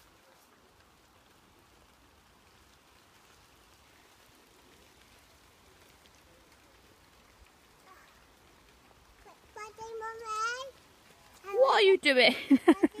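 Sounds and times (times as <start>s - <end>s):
light rain hiss: 0.0s - 13.0s.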